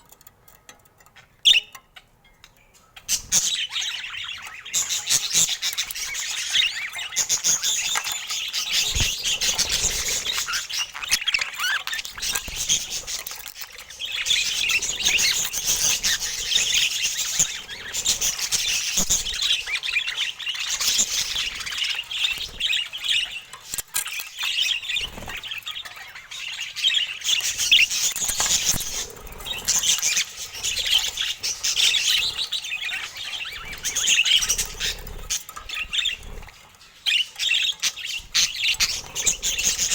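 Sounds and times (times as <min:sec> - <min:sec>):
budgerigars chattering: 0:02.9 - 0:39.9.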